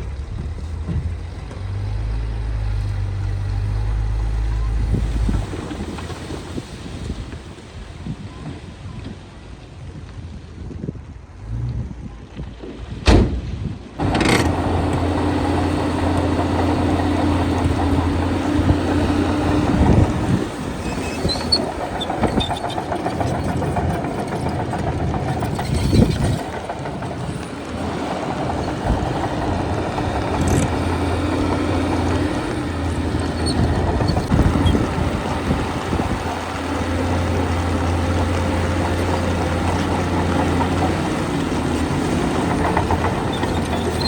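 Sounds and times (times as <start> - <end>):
diesel machinery running: 0.0 - 7.2, 13.9 - 44.0.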